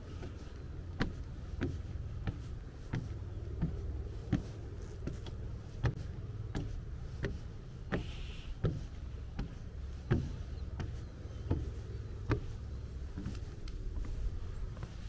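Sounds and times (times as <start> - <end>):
footsteps walking: 0.0 - 15.0
steady low rumble: 0.0 - 15.0.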